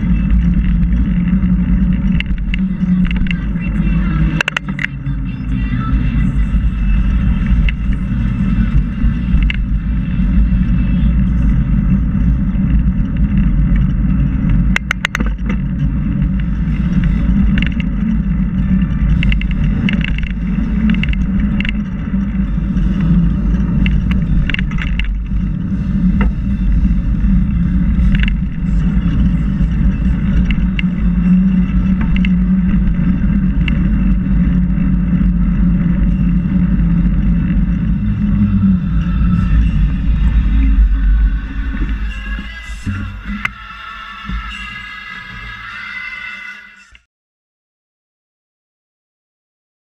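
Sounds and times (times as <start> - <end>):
bicycle clicks and rattles: 0.0 - 5.2, 6.6 - 42.2
wind on microphone: 0.0 - 45.6
tyres rolling on pavement: 0.0 - 46.2.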